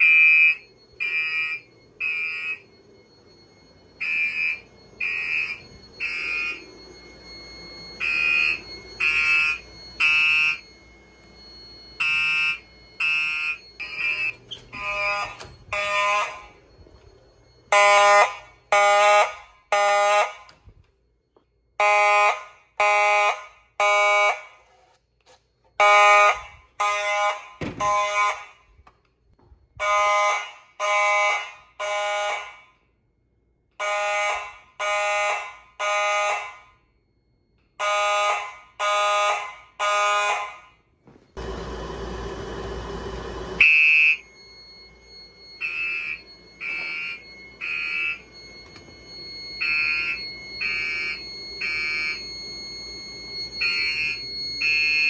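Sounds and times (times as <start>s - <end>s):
low-pitched fire alarm horn: 0.0s - 21.0s, 21.7s - 55.0s
high-pitched fire alarm horn: 0.0s - 55.0s.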